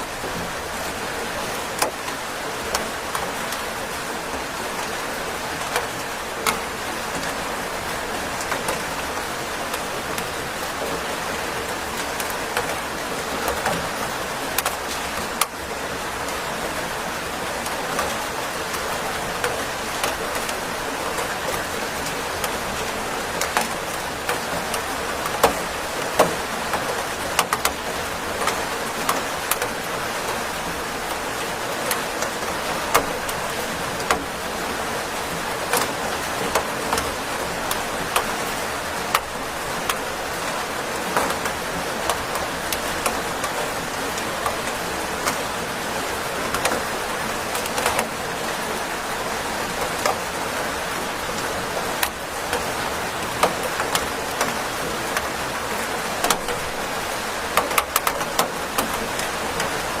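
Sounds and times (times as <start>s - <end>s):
raindrops ticking on hard surface: 0.0s - 60.0s
steady rain hiss: 0.0s - 60.0s.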